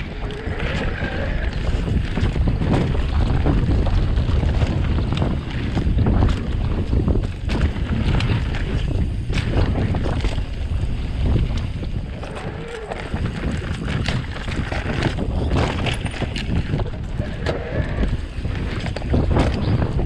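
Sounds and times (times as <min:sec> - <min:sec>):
bike clicks and rattles: 0:00.0 - 0:20.0
steady low rumble: 0:00.0 - 0:20.0
wind buffeting microphone: 0:00.0 - 0:20.0.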